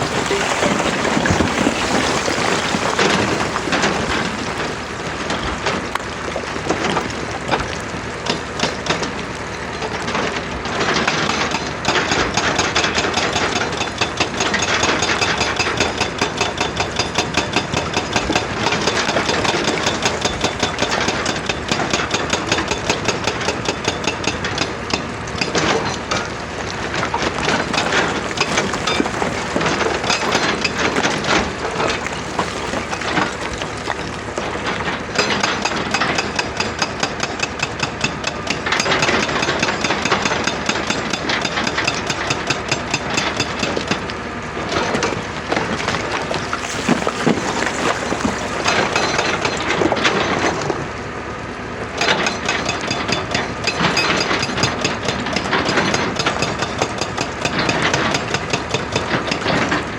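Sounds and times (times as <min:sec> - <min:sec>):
excavator engine running: 0:00.0 - 0:59.9
hydraulic rock breaker hammering: 0:00.0 - 0:59.9.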